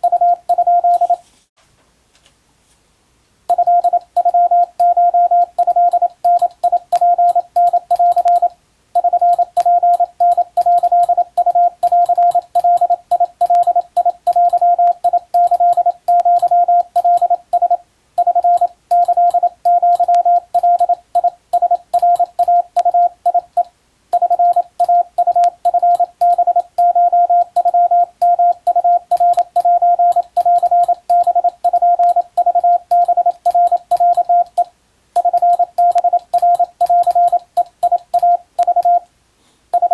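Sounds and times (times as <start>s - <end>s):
morse code beeping tone: 0.0s - 1.2s, 3.5s - 39.0s.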